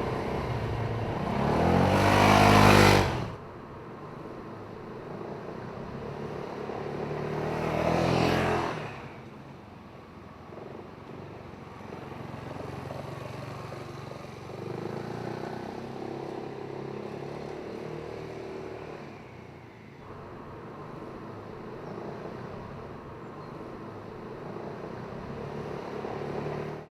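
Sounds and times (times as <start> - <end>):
scooter engine passing by: 0.0 - 9.6, 10.4 - 26.9.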